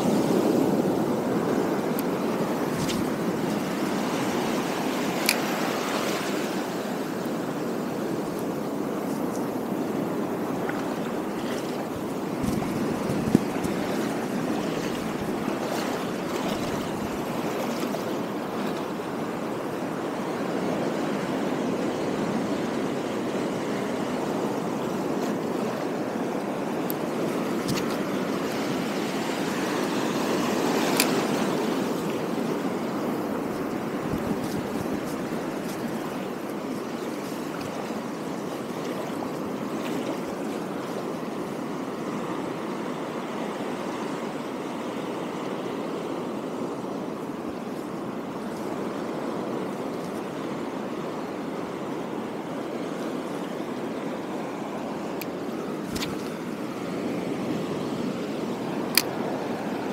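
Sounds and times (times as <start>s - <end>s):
surf washing over rocks: 0.0s - 59.9s.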